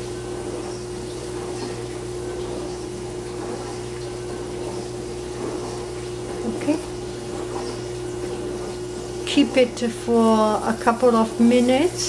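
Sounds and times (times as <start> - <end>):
constant humming tone: 0.0 - 12.0
pressure cooker hissing and bubbling: 0.0 - 12.0.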